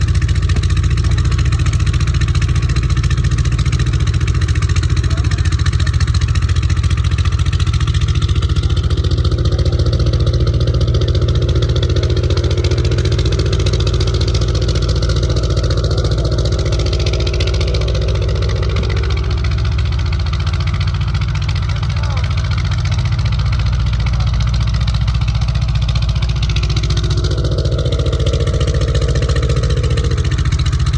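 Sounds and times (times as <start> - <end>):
engine running with deep rumble: 0.0 - 30.9.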